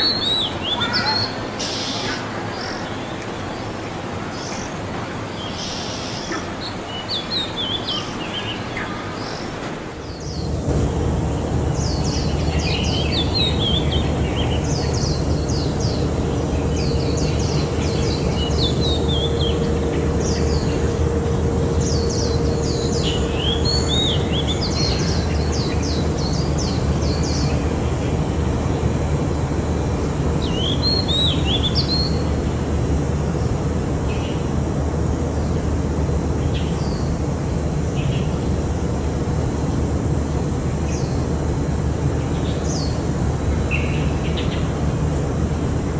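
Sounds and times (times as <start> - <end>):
birds chirping: 0.0 - 39.6
low background rumble: 7.9 - 45.9.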